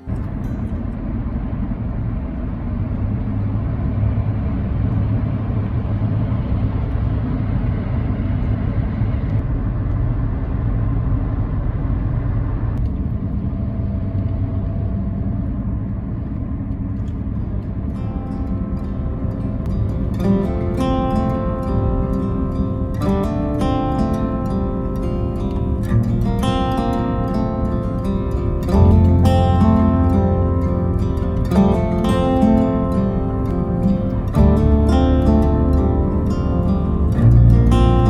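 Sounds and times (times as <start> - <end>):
car road and tyre noise: 0.0 - 38.0.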